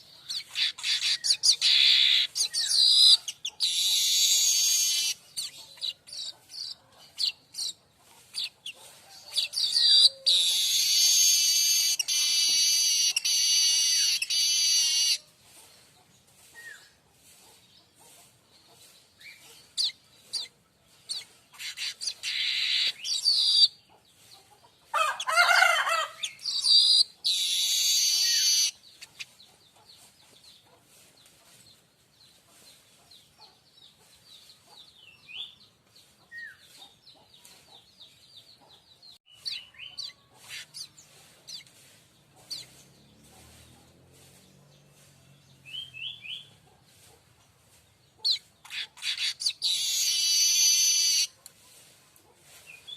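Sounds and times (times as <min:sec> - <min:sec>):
weaver bird buzzy song: 0:00.0 - 0:52.9.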